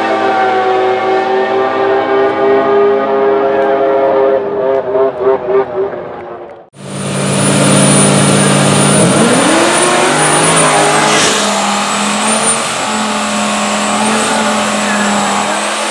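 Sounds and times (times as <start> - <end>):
racing car engine revving high: 0.0 - 6.0, 6.8 - 15.9.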